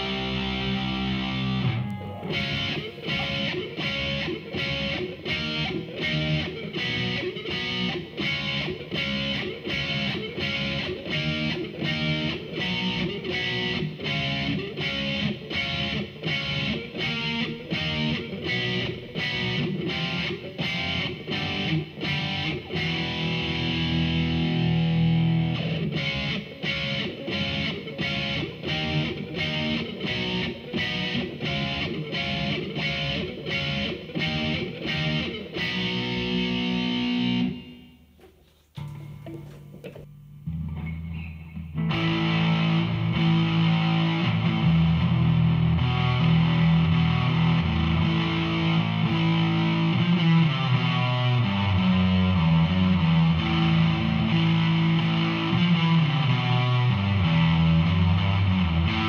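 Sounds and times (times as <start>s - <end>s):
overdriven electric guitar riff: 0.0s - 59.0s.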